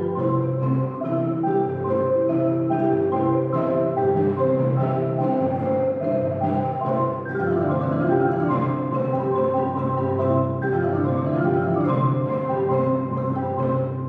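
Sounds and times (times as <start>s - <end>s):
marimba ensemble playing: 0.0s - 14.0s.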